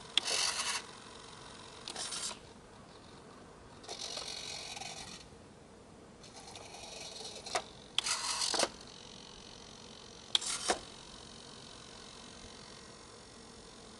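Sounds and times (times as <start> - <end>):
small servos whirring: 0.0 - 5.3, 6.2 - 13.9.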